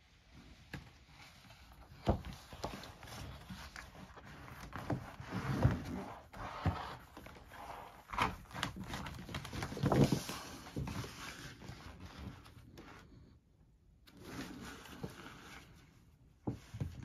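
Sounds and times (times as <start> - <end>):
paper mat rustling and crinkling: 0.1 - 13.2, 14.1 - 17.0.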